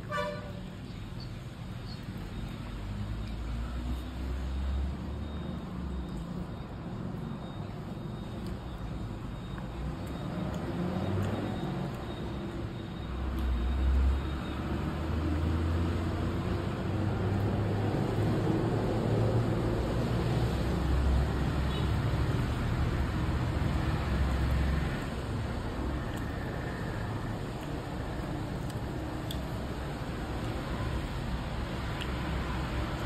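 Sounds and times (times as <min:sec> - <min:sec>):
vehicle traffic rumble: 0:00.0 - 0:33.0.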